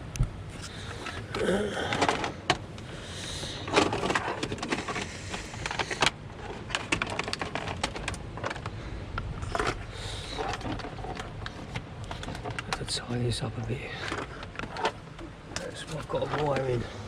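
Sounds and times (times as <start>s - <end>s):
rustling of wiring and trim: 0.0s - 17.0s.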